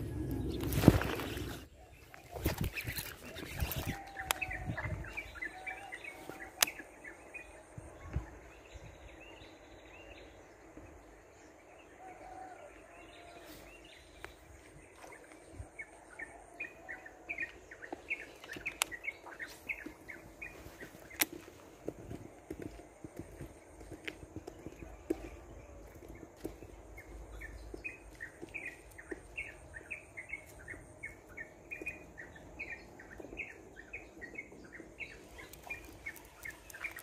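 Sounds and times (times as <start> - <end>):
small birds chirping: 0.0 - 11.7, 14.0 - 37.0.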